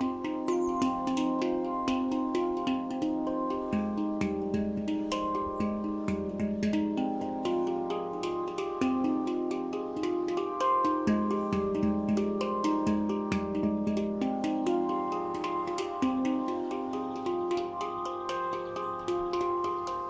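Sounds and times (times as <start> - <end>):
handpan ringing notes: 0.0 - 20.0.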